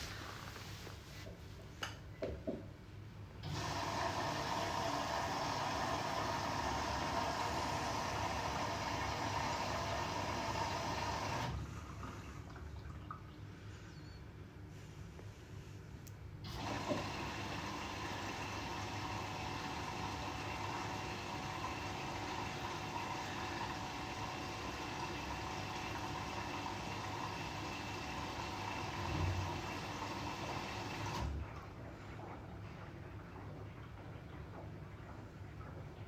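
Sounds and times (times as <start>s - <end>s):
water rushing into washing machine: 3.4s - 13.5s, 16.4s - 36.0s.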